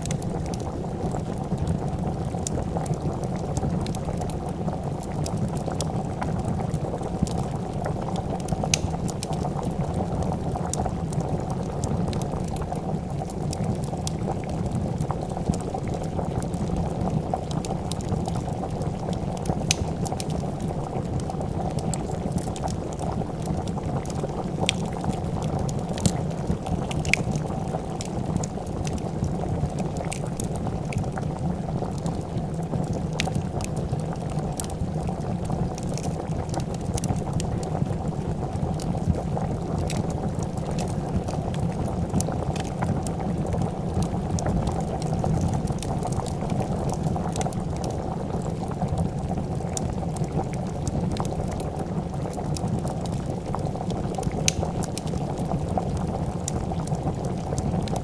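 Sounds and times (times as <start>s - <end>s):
pot of soup bubbling: 0.0s - 58.0s
wood fire crackling: 0.0s - 58.0s.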